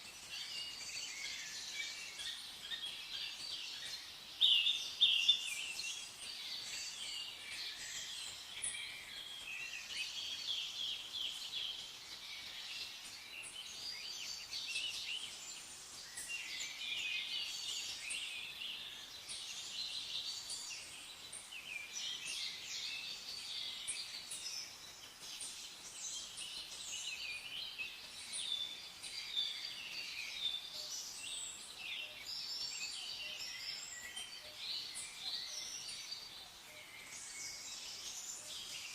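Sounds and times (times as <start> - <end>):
many birds chirping and singing: 0.0 - 38.9.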